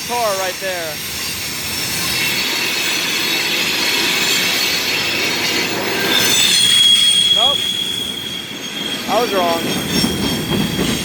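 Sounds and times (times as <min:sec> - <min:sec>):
rumbling of freight cars: 0:00.0 - 0:11.0
train wheels squealing on rail: 0:00.0 - 0:11.0.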